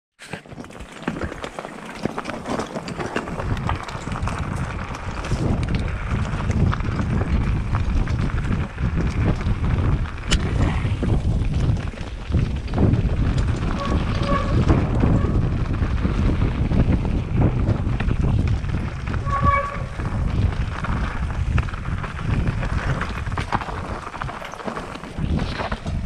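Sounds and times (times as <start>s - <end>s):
bike rattling and knocking: 0.2s - 26.0s
tyres running over dirt and stones: 0.2s - 26.0s
wind buffeting microphone: 2.0s - 26.0s.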